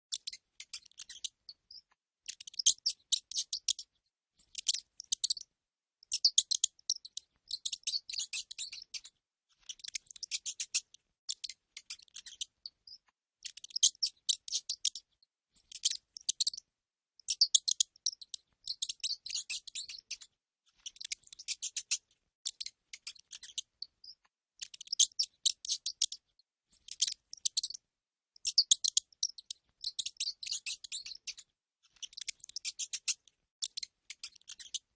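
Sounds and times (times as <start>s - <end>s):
rodent squeaking: 0.1s - 26.2s, 26.8s - 27.8s, 28.4s - 34.9s.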